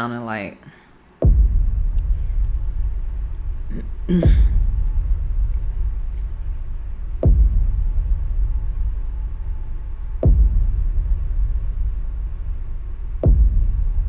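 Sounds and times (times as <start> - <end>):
deep bass booms dropping in pitch: 1.2 - 14.0
low rumble: 1.2 - 14.0.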